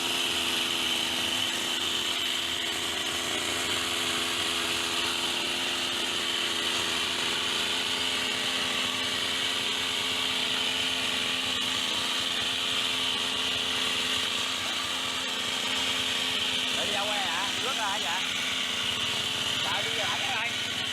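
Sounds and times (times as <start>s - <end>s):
hedge trimmer engine running: 0.0s - 20.9s.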